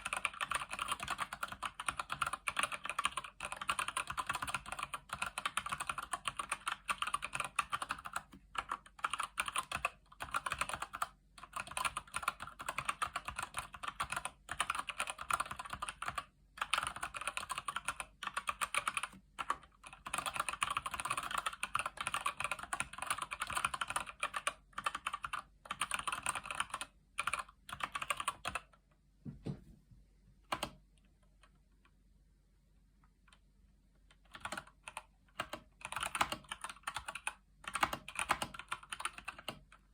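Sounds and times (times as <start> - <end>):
typing on mechanical keyboard: 0.0 - 28.8, 30.5 - 31.5, 34.1 - 39.9.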